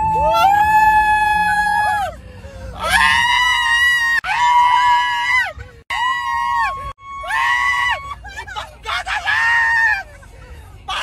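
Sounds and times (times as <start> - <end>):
woman screaming: 0.1 - 2.2, 2.8 - 10.0.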